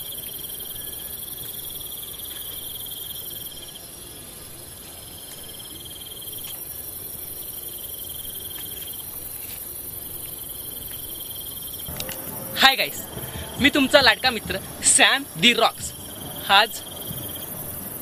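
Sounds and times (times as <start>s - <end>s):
crickets chirring: 0.0s - 18.0s
high insect trill: 0.0s - 18.0s
lower insect trill: 0.0s - 18.0s.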